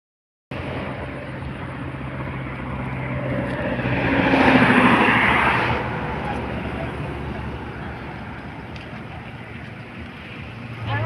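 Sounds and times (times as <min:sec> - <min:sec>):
road noise rushing: 0:00.5 - 0:11.0
vehicle engine humming: 0:00.5 - 0:11.0.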